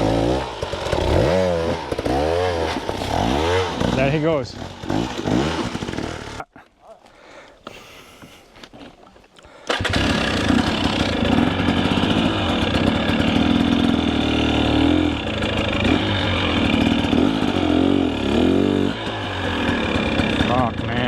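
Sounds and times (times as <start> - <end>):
dirt bike engine idling: 0.0 - 6.4, 9.6 - 21.0.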